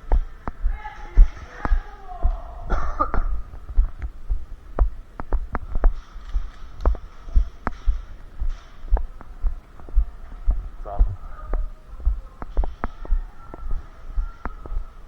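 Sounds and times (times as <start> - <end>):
footsteps thumping: 0.0 - 15.0.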